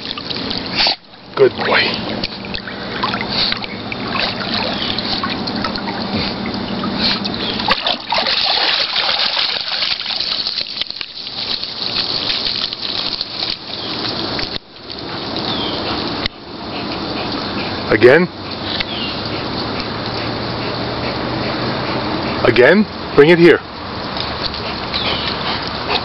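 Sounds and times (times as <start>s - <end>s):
pool water splashing and trickling: 0.0s - 26.0s.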